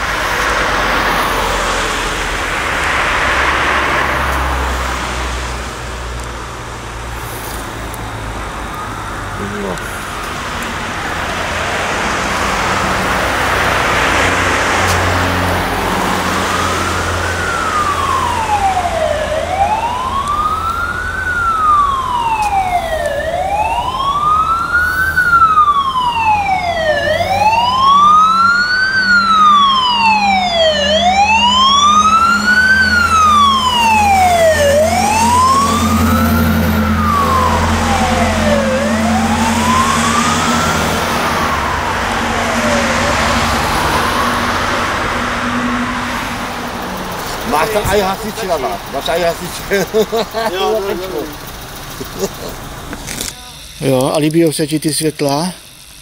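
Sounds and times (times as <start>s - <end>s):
fire engine siren wailing: 0.0s - 55.8s
passing road traffic: 0.0s - 56.0s.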